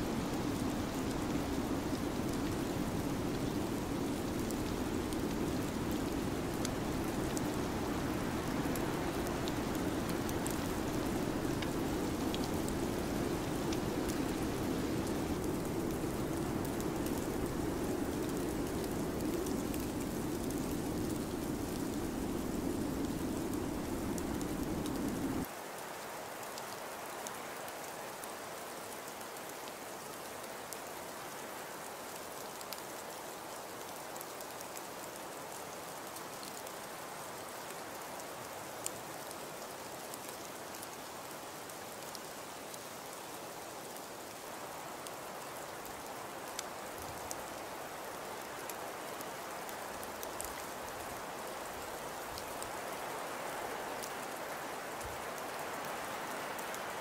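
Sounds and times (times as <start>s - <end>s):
rain-like hiss: 0.0s - 57.0s.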